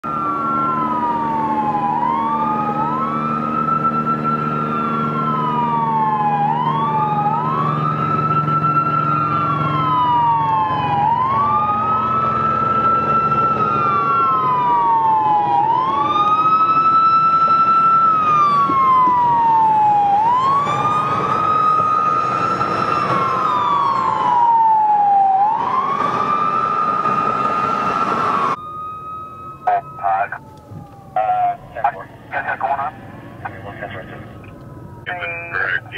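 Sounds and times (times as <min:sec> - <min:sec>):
emergency sirens wailing: 0:00.0 - 0:35.9.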